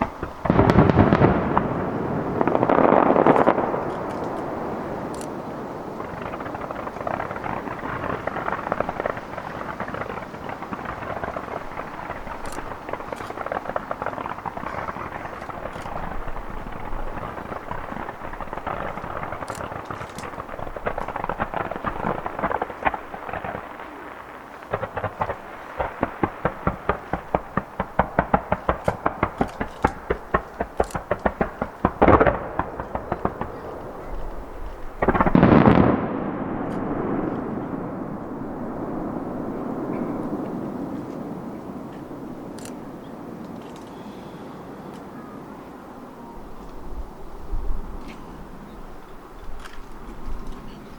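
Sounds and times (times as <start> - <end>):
fireworks crackling: 0.0 - 50.9
fireworks sharp bangs: 0.0 - 50.9.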